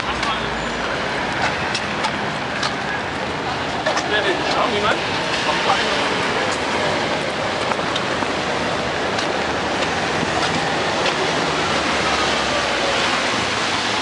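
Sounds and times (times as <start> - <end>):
rain on wet pavement: 0.0 - 14.0
traffic on wet street: 0.0 - 14.0.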